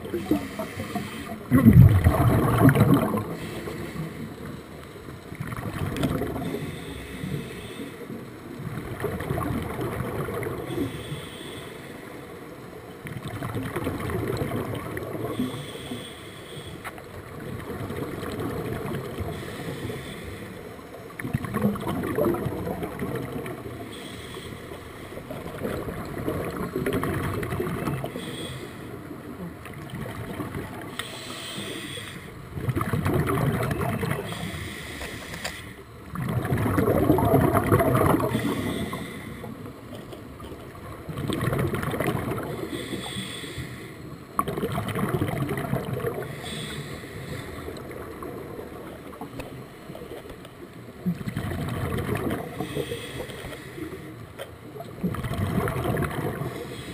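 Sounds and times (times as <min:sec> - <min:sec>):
exhaled bubbles gurgling underwater: 0:00.0 - 0:56.9
steady underwater hiss: 0:00.0 - 0:56.9.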